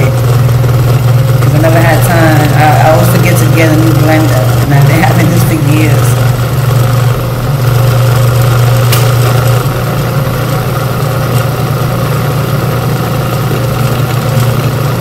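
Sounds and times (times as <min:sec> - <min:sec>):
blender motor running: 0:00.0 - 0:15.0.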